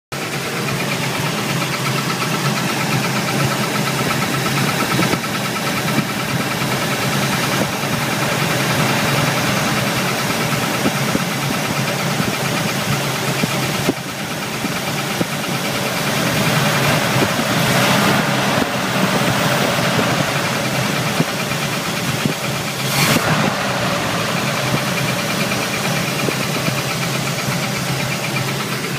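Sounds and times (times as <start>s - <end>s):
engine running: 0.1s - 28.9s
rapid chirp inside engine: 0.1s - 28.9s.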